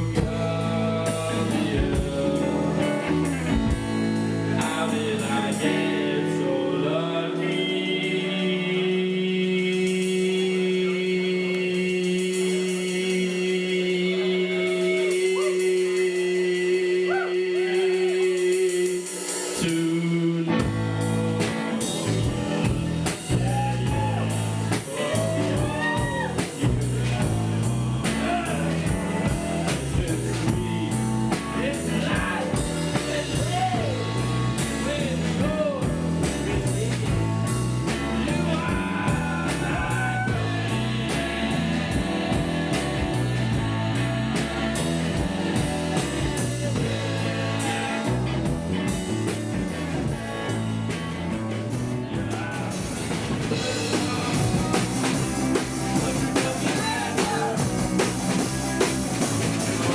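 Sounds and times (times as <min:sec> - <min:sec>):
rock band playing: 0:00.0 - 0:17.0, 0:17.6 - 0:59.9
lead vocal singing: 0:00.0 - 0:59.9.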